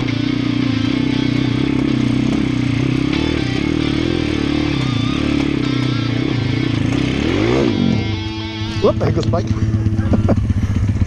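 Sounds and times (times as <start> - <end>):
dirt bike engine labouring: 0.0 - 11.0.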